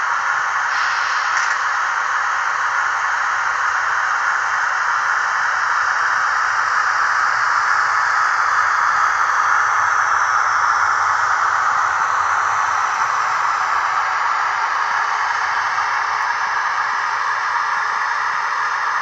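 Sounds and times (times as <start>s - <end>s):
locomotive model fan hiss: 0.0s - 19.0s.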